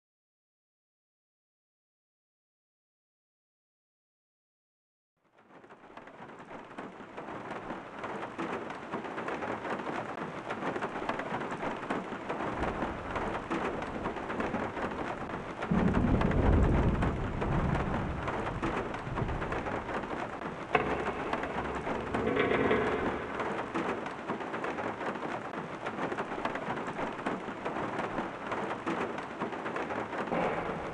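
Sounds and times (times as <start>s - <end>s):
steady rain: 5.2s - 30.9s
low roll of thunder: 5.5s - 30.9s.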